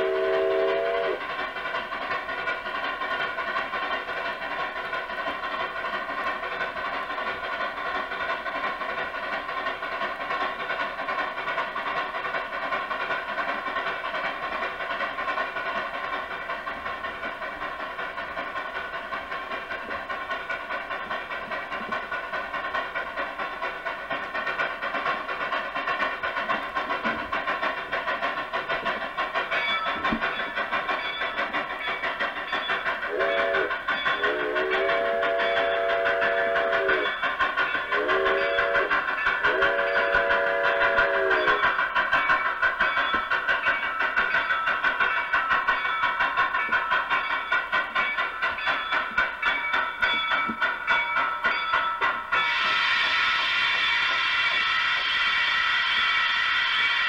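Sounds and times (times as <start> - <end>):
model train running on track: 0.0 - 57.0.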